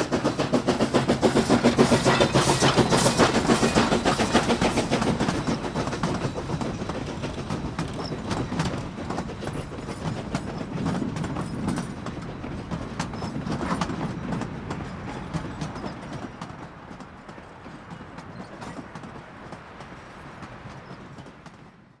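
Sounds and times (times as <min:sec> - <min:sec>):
steam train wheels clicking: 0:00.0 - 0:22.0.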